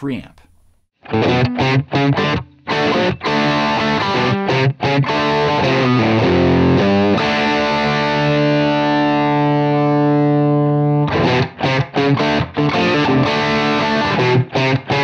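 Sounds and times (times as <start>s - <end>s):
overdriven electric guitar chords: 1.0s - 15.0s.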